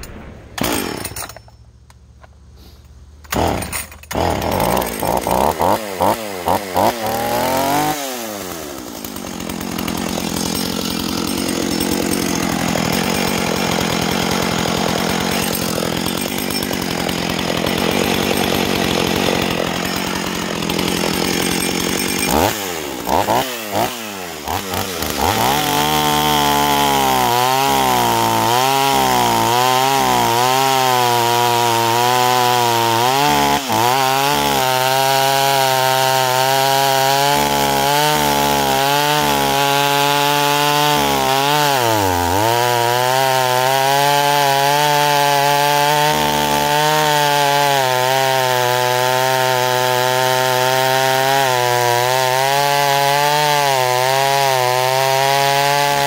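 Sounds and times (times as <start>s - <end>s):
chainsaw revving: 0.0s - 1.4s, 2.6s - 56.0s
chainsaw cutting log: 0.0s - 56.0s.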